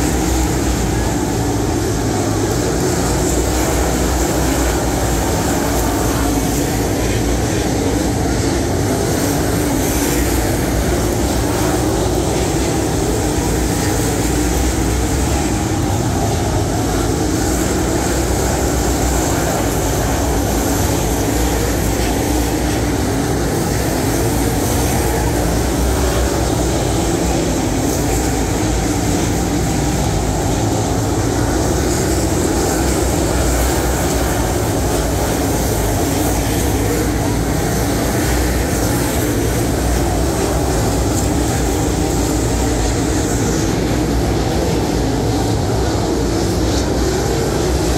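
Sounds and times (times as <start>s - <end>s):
race car engines roaring: 0.0s - 47.9s.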